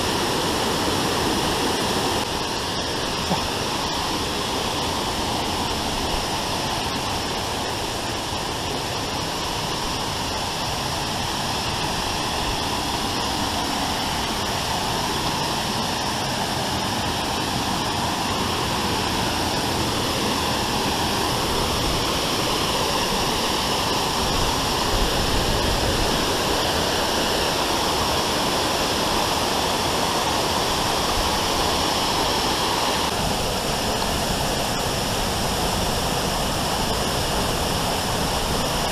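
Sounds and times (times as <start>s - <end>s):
waterfall: 0.0s - 38.9s.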